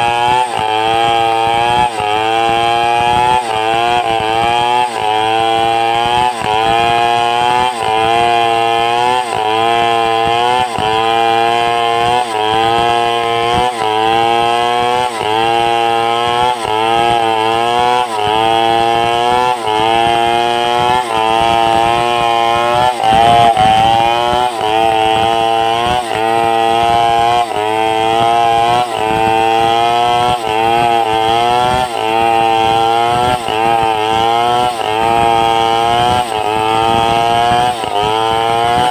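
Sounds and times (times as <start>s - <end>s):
chainsaw ripping timber: 0.0s - 38.9s.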